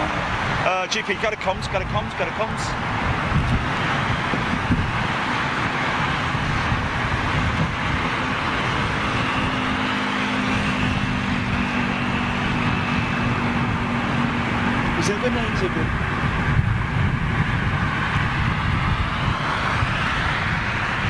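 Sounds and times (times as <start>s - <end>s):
engine roar: 0.0s - 21.0s.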